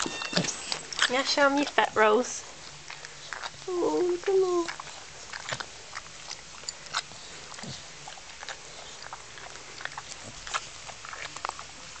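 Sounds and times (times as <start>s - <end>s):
dog chewing and smacking: 0.0s - 12.0s.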